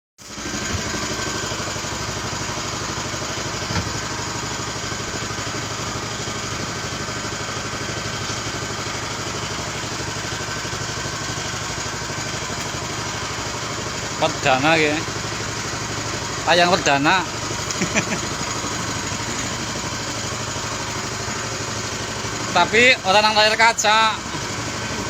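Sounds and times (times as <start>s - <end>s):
brick machine running: 0.2s - 23.6s.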